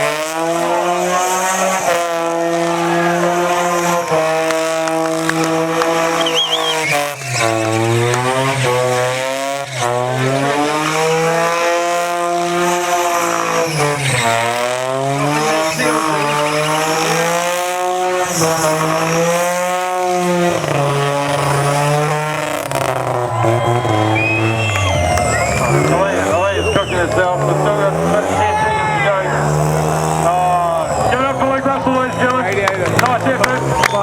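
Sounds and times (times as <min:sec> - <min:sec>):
rotary engine revving: 0:00.0 - 0:34.0.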